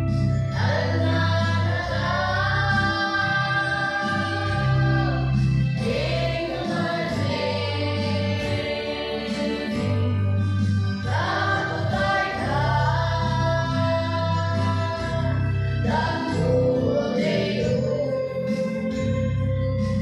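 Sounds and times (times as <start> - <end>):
low musical accompaniment: 0.0 - 20.0
woman and children singing gospel: 0.6 - 10.4, 11.0 - 18.3.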